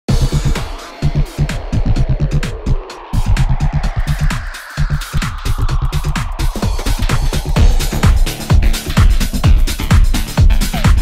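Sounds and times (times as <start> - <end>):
electronic dance music: 0.1 - 11.0.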